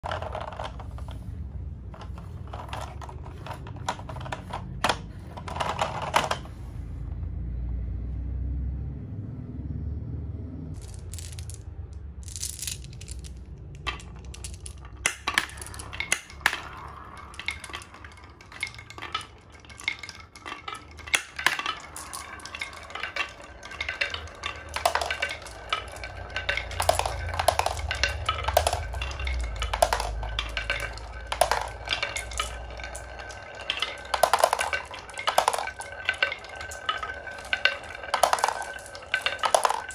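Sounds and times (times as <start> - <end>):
marbles clicking on wooden tracks: 0.0 - 6.9, 10.8 - 39.9.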